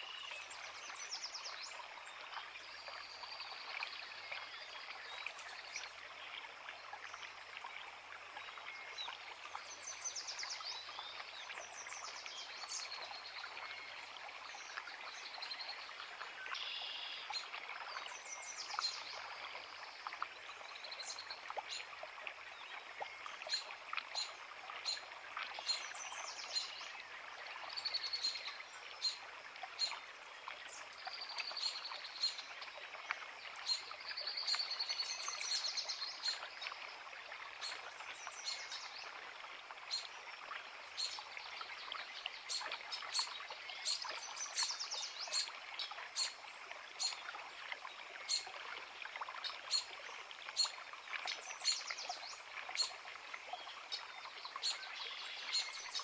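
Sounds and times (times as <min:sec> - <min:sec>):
songbirds singing: 0:00.0 - 0:39.2, 0:39.9 - 0:48.6, 0:50.5 - 0:56.0
creek running over rocks: 0:00.0 - 0:56.0.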